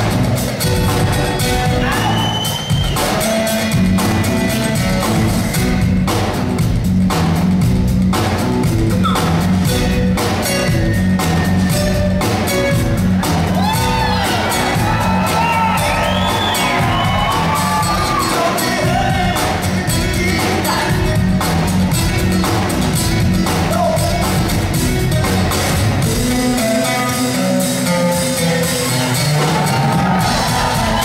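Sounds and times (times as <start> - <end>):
drum kit and hand drums: 0.0 - 31.0.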